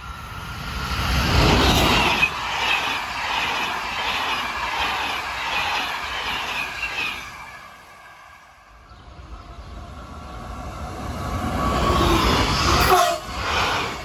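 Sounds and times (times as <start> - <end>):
wheels rushing on rail: 0.0 - 14.0.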